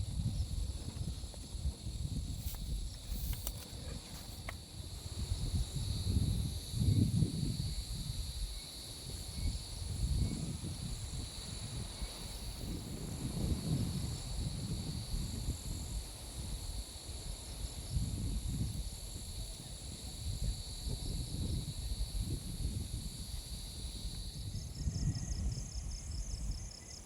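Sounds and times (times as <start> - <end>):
insects trilling: 0.0 - 27.0
wind rumble on microphone: 0.0 - 27.0.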